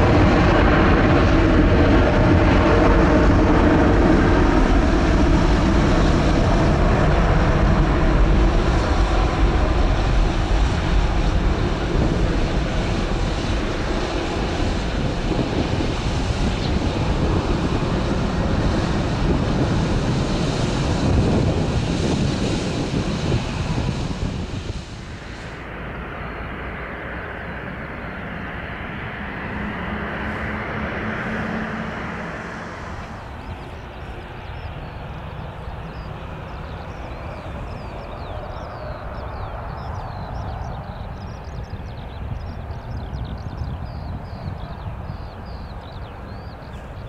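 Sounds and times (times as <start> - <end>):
jet engine hum: 0.0 - 47.0
jet engines at taxi power: 0.0 - 47.0
jet engines on take-off: 0.0 - 47.0.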